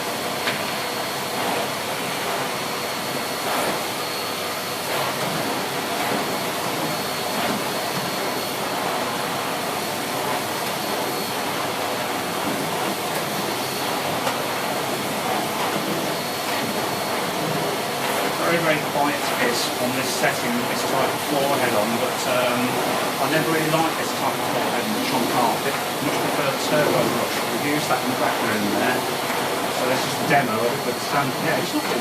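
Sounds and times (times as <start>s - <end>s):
vacuum cleaner running on carpet: 0.0s - 32.0s.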